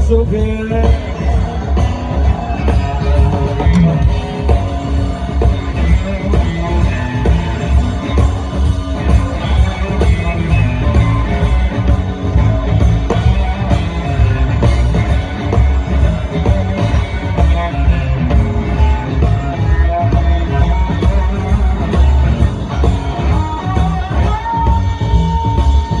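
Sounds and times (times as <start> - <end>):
bass: 0.0 - 26.0
drums: 0.0 - 26.0
electric guitar: 0.0 - 26.0.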